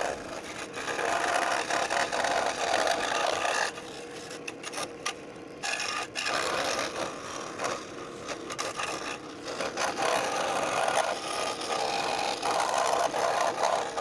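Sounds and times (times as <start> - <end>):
wood being rasped: 0.0 - 14.0.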